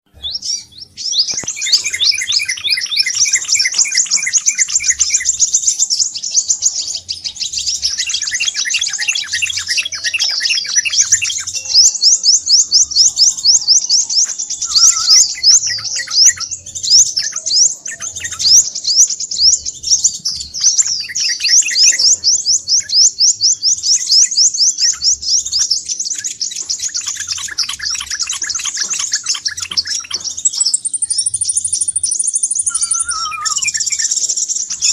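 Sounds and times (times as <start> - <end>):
sunbird chirps and trills: 0.1 - 34.9.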